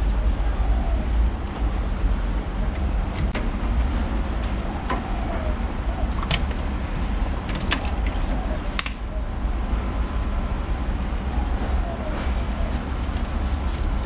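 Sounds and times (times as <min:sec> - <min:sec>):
air conditioner rumbling: 0:00.0 - 0:14.0.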